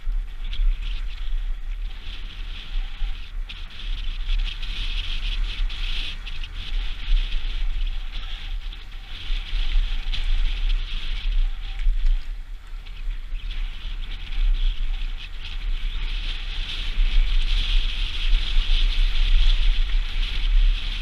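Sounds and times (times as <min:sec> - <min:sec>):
bike clicks and rattles: 0:00.0 - 0:21.0
bike tyres crunching over dirt: 0:00.0 - 0:21.0
wind buffeting microphone: 0:00.0 - 0:21.0.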